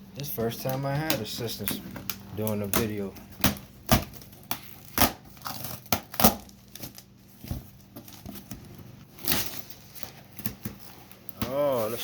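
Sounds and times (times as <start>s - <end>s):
packing material crinkling: 0.2s - 12.0s.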